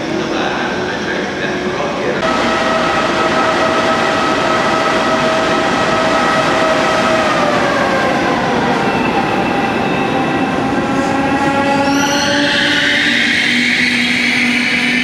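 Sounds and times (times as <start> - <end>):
train rolling on rails: 0.0 - 15.0
train whine: 0.0 - 15.0.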